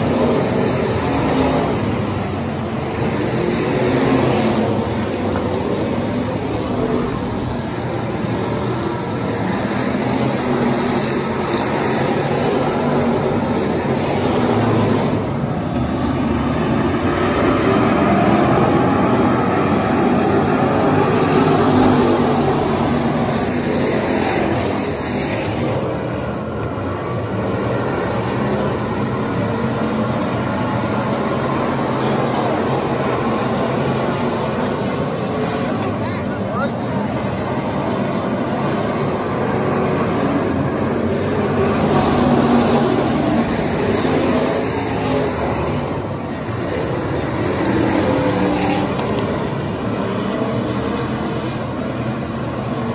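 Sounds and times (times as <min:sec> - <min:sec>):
race car engines: 0:00.0 - 0:52.9.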